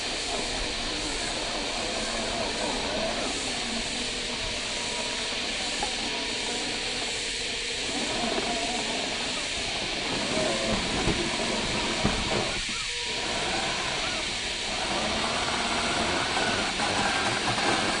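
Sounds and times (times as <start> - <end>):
rc car electric drive whining: 0.0 - 18.0
steady hiss: 0.0 - 18.0.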